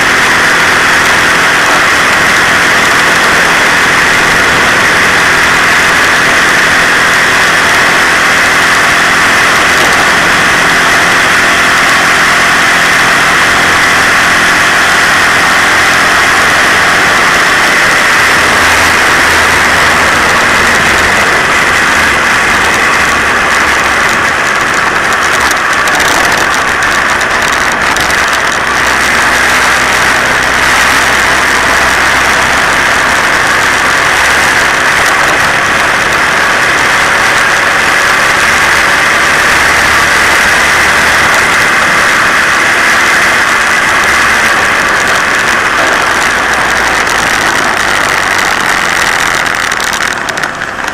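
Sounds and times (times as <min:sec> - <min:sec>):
moped engine running: 0:00.0 - 0:50.9
wind and road noise: 0:00.0 - 0:50.9.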